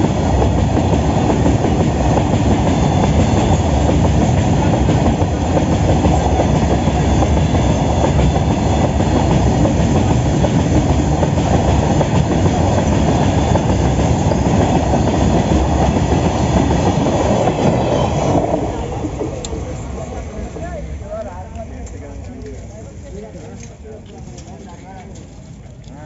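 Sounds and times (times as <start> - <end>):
train wheels clattering over rails: 0.0 - 23.0.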